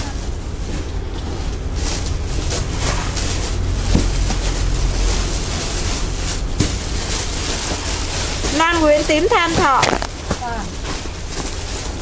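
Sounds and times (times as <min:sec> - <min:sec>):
bags rustling: 0:00.0 - 0:12.0.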